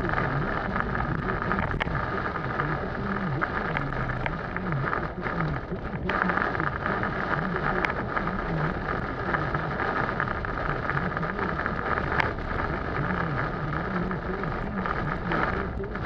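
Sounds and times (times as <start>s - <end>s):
heavy rain on a car: 0.0s - 16.0s
road and engine noise: 0.0s - 16.0s.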